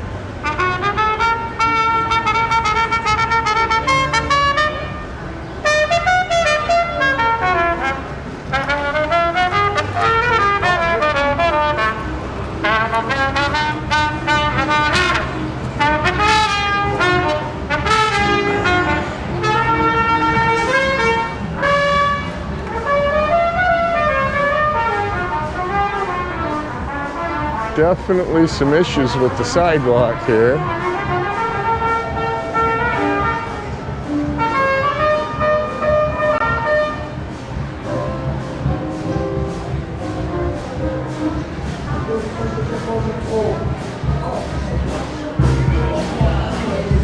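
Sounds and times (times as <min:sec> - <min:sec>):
trumpet-led brass music: 0:00.0 - 0:47.0.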